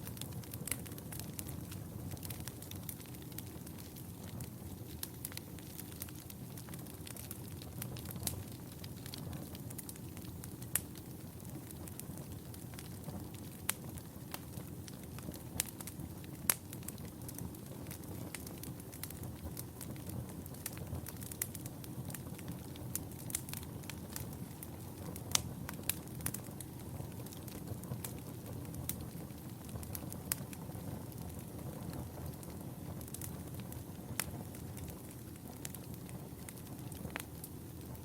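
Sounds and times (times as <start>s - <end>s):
fire crackling and popping: 0.0s - 38.0s
rumble of fire flames: 0.0s - 38.0s.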